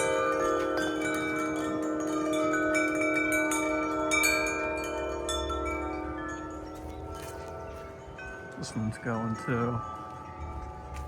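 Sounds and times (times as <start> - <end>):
metal wind chimes ringing: 0.0 - 11.0.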